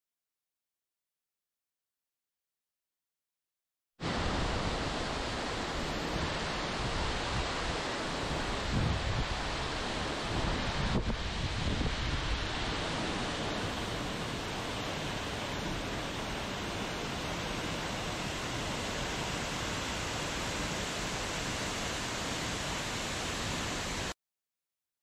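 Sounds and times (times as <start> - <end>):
waterfall rushing: 4.0 - 24.2.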